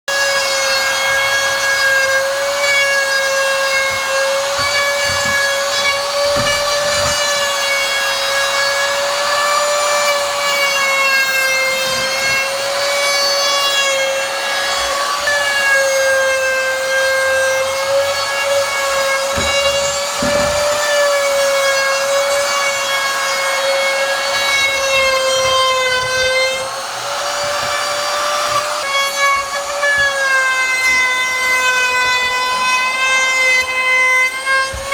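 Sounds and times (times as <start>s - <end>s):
router cutting wood: 0.1s - 34.9s
wood router motor whine: 0.1s - 34.9s.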